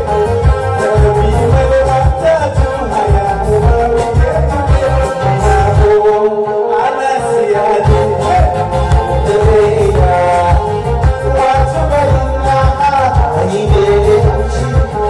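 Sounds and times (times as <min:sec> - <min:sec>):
heavy bass beat: 0:00.0 - 0:06.1, 0:07.2 - 0:15.0
electric guitar: 0:00.0 - 0:15.0
person singing: 0:00.0 - 0:15.0.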